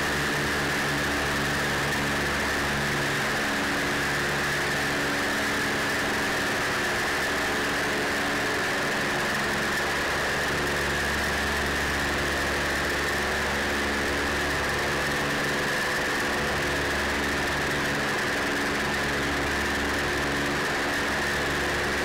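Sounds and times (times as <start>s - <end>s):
aircraft engines running steadily: 0.0s - 22.0s.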